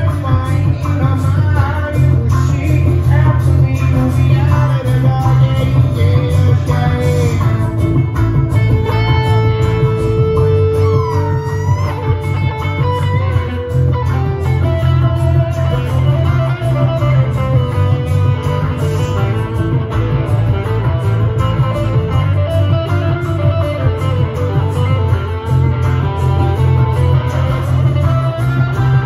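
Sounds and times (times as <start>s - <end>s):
amplified acoustic guitar playing: 0.0s - 29.0s.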